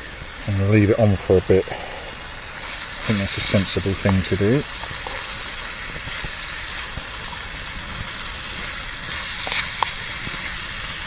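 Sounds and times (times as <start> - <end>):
meat sizzling in a pan: 0.0 - 11.0
small crackles: 0.0 - 11.0.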